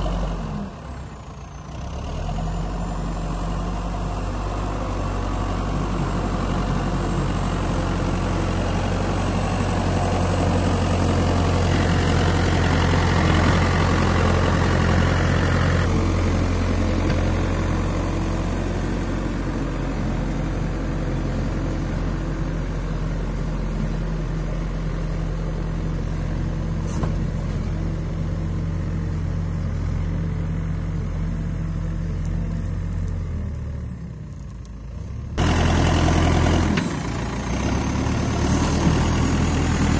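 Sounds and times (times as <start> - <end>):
loader bucket pushing soil: 0.0 - 33.7, 35.4 - 39.9
diesel engine running: 0.0 - 39.9.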